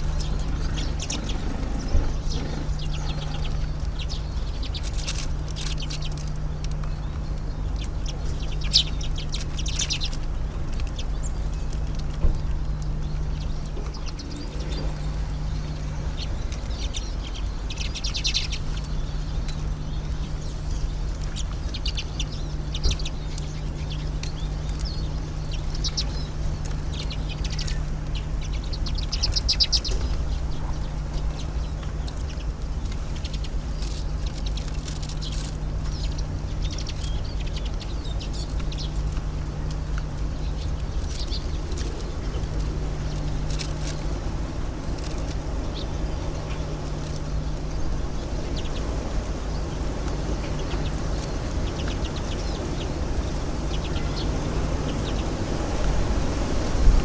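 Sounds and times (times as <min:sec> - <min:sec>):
bird rattling trills: 0:00.0 - 0:57.0
constant hum: 0:00.0 - 0:57.0
songbirds chirping: 0:00.0 - 0:57.0
steady low rumble: 0:00.0 - 0:57.0.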